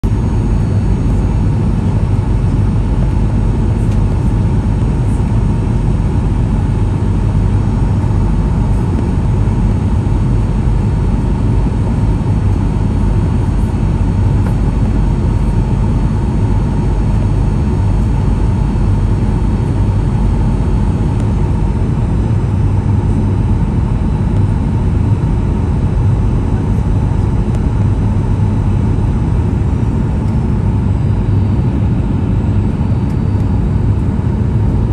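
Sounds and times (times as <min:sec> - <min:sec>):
airliner cabin rumble: 0:00.0 - 0:34.9
faint steady whining tones: 0:00.1 - 0:34.9.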